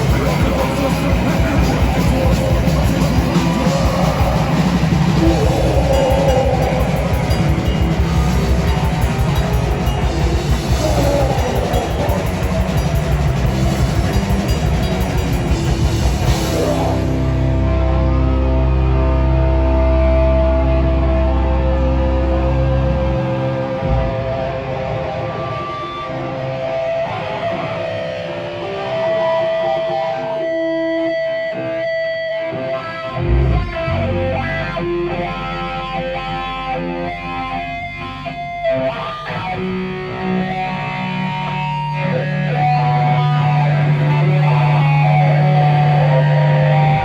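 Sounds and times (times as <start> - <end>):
bass guitar: 0.0 - 47.0
electric guitar notes: 0.0 - 47.0.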